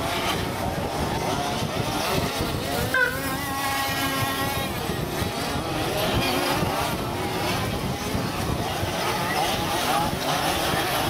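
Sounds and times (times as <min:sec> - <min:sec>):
small engines revving: 0:00.0 - 0:11.0.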